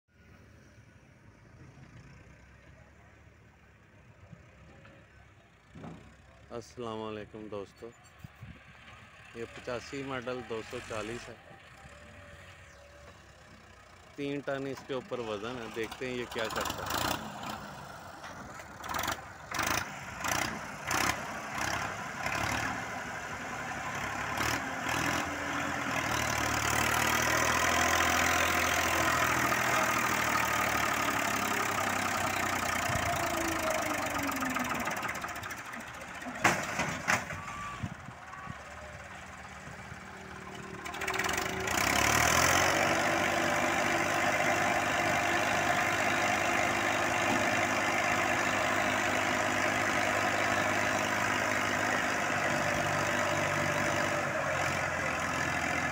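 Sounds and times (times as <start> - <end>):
tractor diesel engine working: 0.1 - 55.9.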